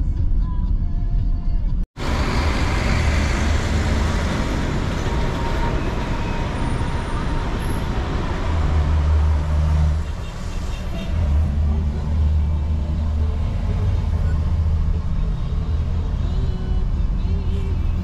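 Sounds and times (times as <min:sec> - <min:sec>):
traffic heard from inside car: 0:02.0 - 0:18.0.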